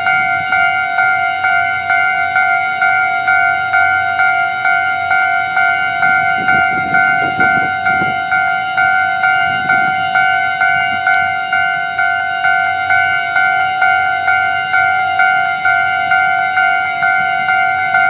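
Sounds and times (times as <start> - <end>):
level-crossing warning bell ringing: 0.0 - 18.0.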